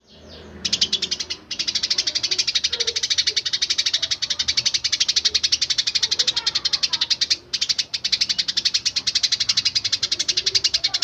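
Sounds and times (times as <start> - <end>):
sparrows chirping rapidly: 0.0 - 11.0.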